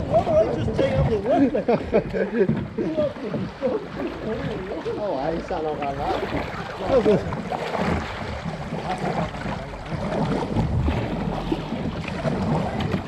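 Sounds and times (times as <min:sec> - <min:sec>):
river water running: 0:00.0 - 0:13.0
wind buffeting microphone: 0:00.0 - 0:13.0.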